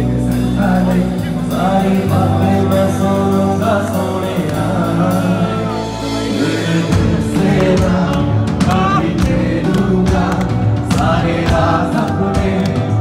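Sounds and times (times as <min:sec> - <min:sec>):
deep bass beat: 0:00.0 - 0:13.0
love song with singing: 0:00.0 - 0:13.0.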